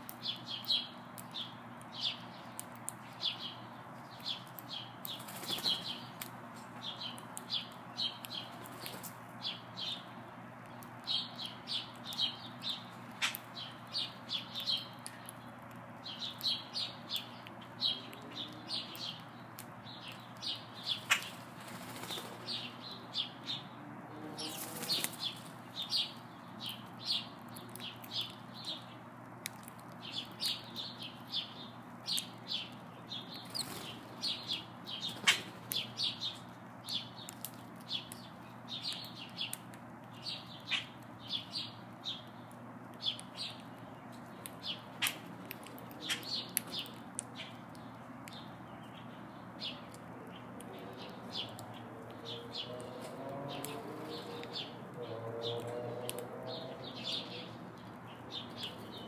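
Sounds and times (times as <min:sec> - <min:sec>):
sparrows chirping: 0:00.0 - 0:59.0.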